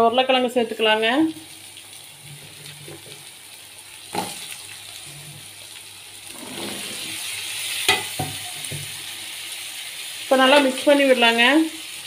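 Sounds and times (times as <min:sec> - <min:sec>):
potatoes sizzling in a pan: 0:00.0 - 0:12.0.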